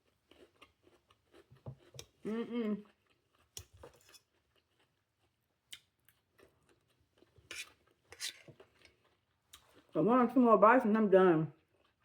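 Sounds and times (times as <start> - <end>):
chewing crunchy salad: 0.0 - 10.0, 11.6 - 12.0.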